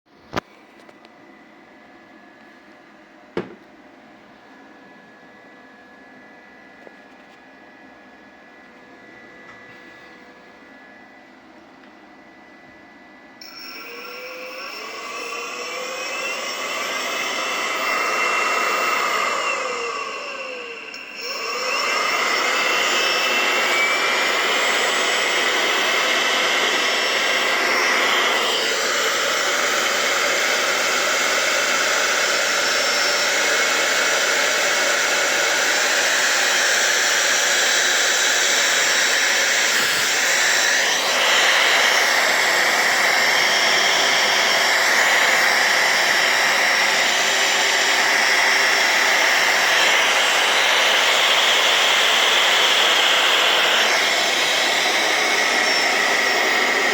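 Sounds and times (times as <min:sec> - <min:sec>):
air blower motor whining: 0:00.1 - 0:56.9.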